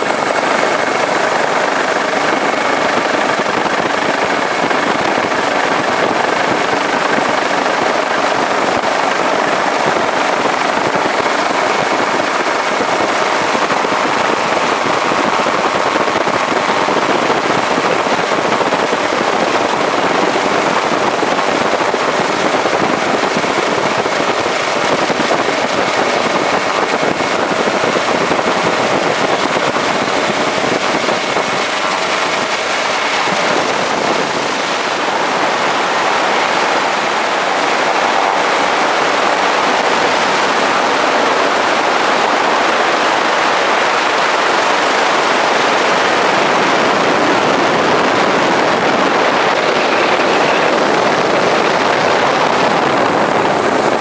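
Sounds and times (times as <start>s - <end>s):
helicopter rush: 0.0s - 54.0s
high whine: 0.0s - 54.0s.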